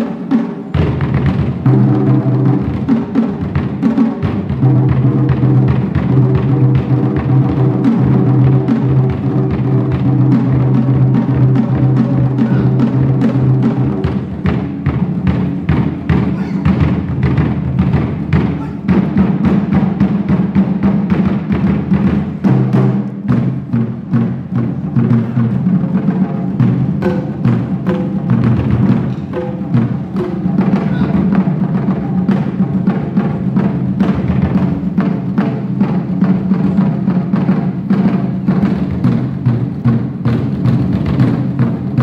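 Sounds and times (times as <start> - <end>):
taiko drums playing: 0.0 - 42.0.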